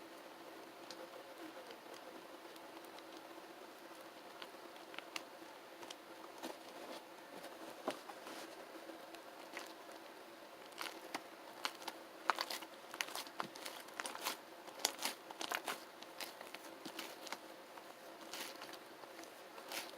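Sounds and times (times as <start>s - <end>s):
faint steady hum: 0.0s - 19.9s.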